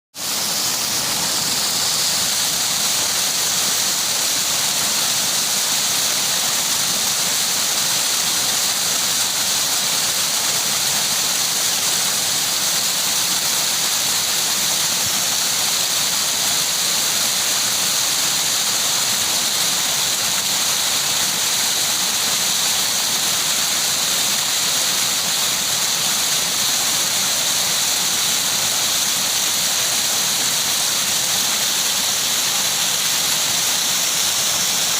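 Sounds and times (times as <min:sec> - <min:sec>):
water rushing: 0:00.2 - 0:34.9.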